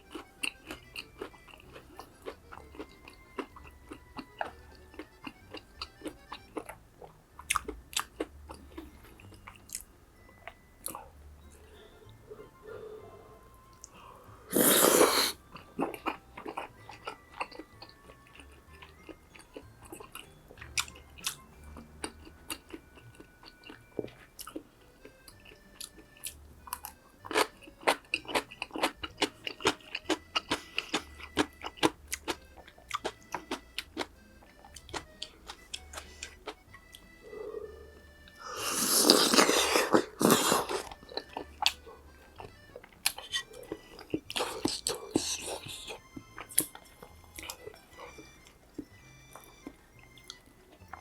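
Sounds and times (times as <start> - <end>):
crunchy chewing: 0.0 - 11.8, 13.7 - 51.0
soft background music: 0.0 - 51.0.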